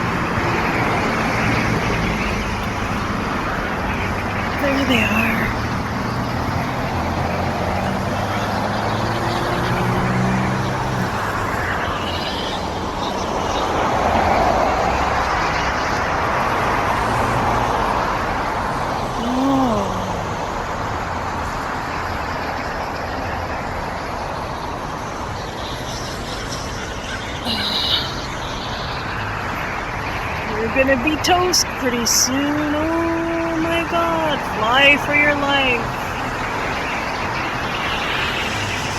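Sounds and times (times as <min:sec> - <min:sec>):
road traffic noise: 0:00.0 - 0:38.9.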